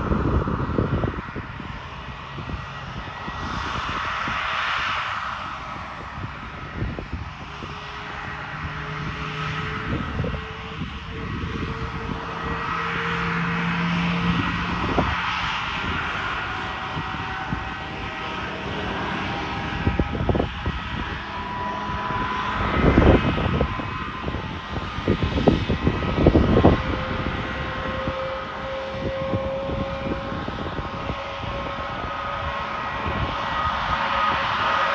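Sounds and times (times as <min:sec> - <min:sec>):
jet engine rushing and whining: 0:00.0 - 0:34.9.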